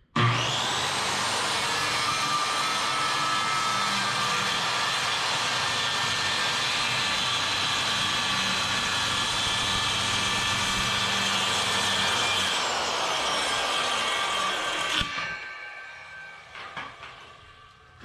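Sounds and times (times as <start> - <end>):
electric saw cutting wood: 0.0 - 18.0.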